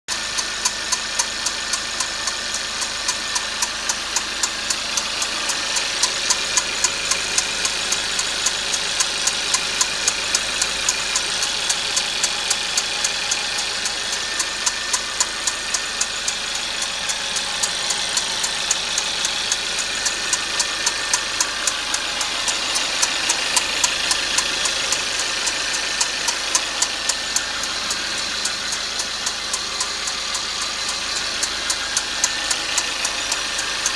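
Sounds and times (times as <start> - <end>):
car engine idling: 0.1 - 33.9
sharp engine ticking: 0.1 - 33.9.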